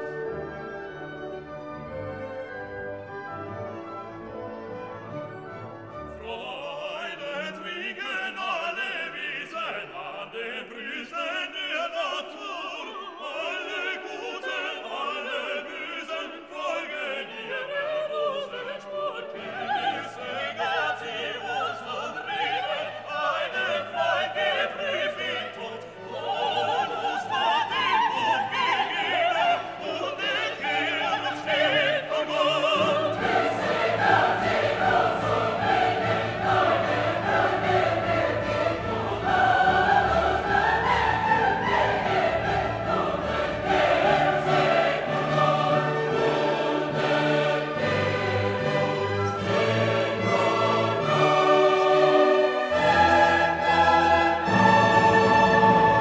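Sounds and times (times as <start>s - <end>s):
choir singing: 0.0s - 56.0s
orchestral music: 0.0s - 56.0s.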